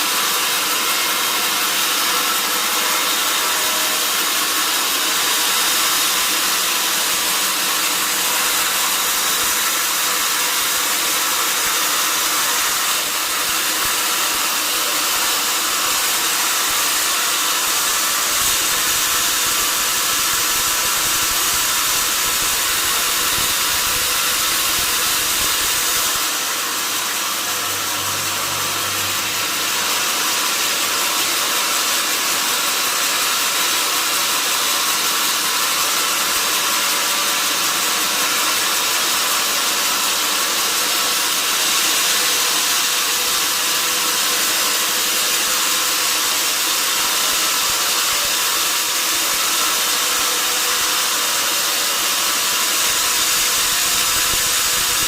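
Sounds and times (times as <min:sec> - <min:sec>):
sawmill saw cutting wood: 0:00.0 - 0:55.0.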